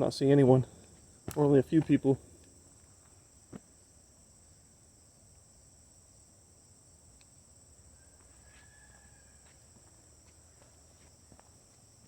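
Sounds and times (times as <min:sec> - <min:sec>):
insects chirring in woods: 0:00.0 - 0:12.0.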